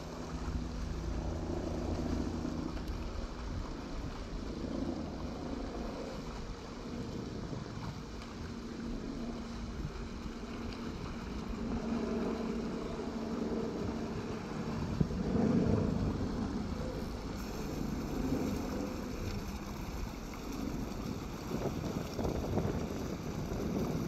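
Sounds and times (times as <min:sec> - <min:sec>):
faint low drone: 0:00.0 - 0:24.0
muddy water rushing and splashing: 0:00.0 - 0:24.0.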